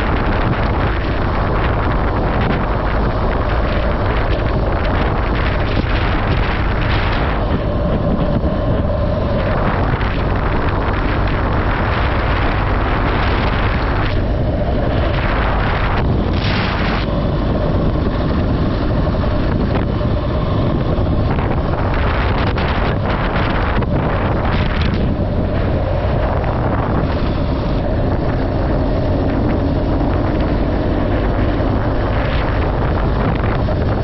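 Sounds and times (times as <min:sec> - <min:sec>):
moving vehicle hum: 0:00.0 - 0:34.0
wind buffeting microphone: 0:00.0 - 0:34.0.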